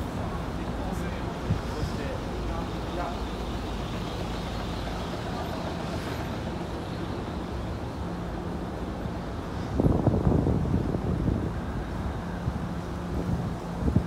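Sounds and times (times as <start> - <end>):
city traffic hum: 0.0 - 14.0.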